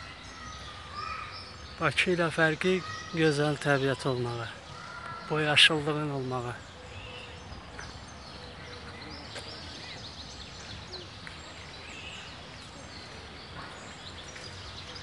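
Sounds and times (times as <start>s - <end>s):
low background noise: 0.0s - 15.0s
small birds chirping: 0.0s - 15.0s.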